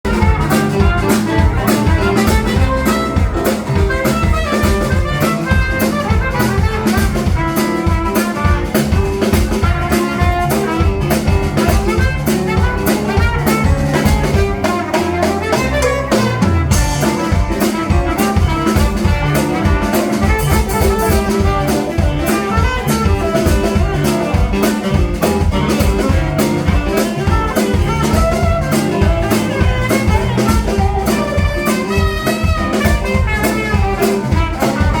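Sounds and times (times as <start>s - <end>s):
blues band playing: 0.0s - 35.0s
cymbals: 0.1s - 35.0s.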